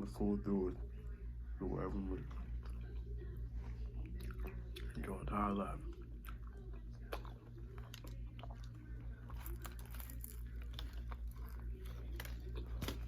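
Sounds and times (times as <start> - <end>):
steady low hum: 0.0 - 13.0
chewing and biting sandwich: 2.0 - 13.0.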